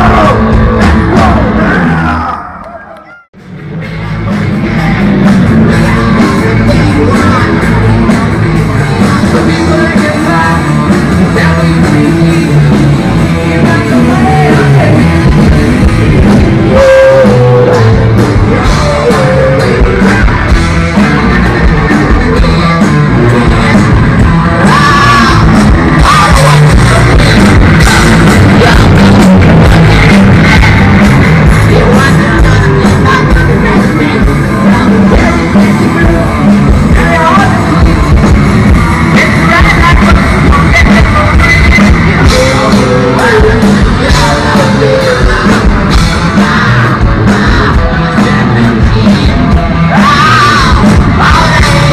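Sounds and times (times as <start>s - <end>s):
person singing: 0.0s - 3.3s, 3.9s - 51.9s
distorted electric guitar: 0.0s - 51.9s
drums: 0.0s - 51.9s.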